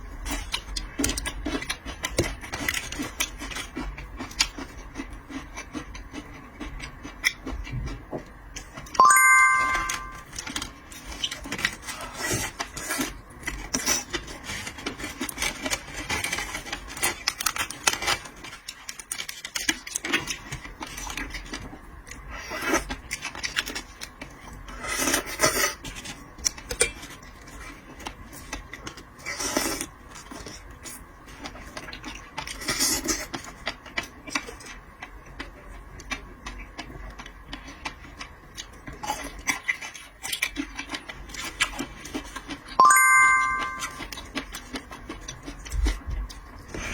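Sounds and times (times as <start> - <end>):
chewing shellfish: 0.0 - 9.0, 10.2 - 42.8, 43.9 - 46.9.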